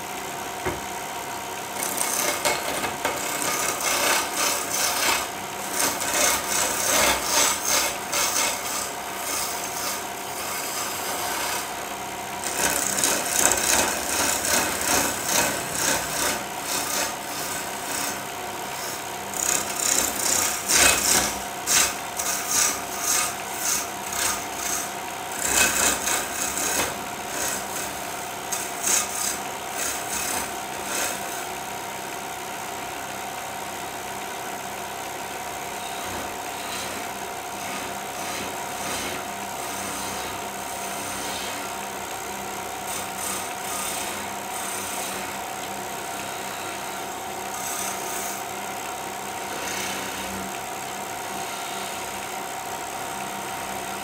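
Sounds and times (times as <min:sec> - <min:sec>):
chisel scraping spinning wood: 0:00.0 - 0:32.6, 0:34.9 - 0:54.0
lathe humming: 0:00.0 - 0:54.0.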